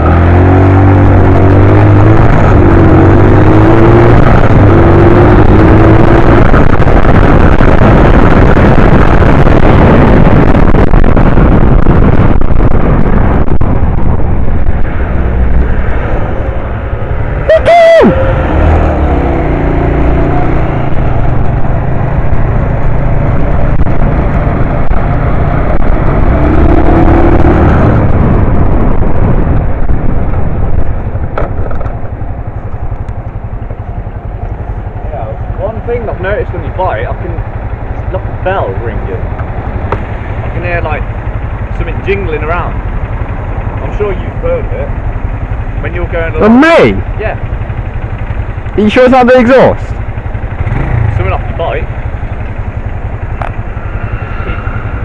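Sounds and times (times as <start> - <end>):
wind rush on microphone: 0.0 - 47.3, 49.6 - 55.0
motorbike engine accelerating: 0.0 - 55.0.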